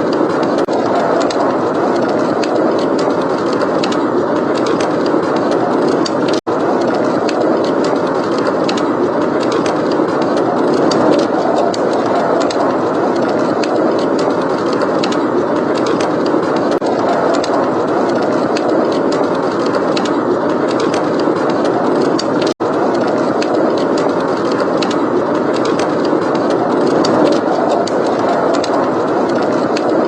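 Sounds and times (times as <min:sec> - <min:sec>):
blizzard wind blowing: 0:00.0 - 0:30.0
wood fire crackling: 0:00.0 - 0:30.0.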